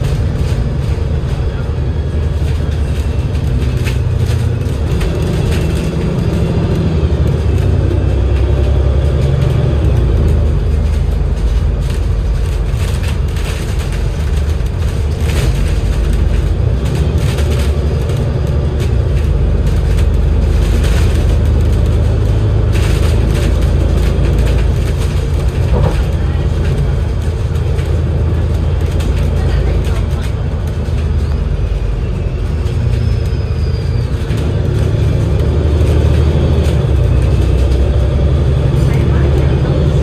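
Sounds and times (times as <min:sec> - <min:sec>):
bus engine droning: 0:00.0 - 0:40.0
road noise: 0:00.0 - 0:40.0.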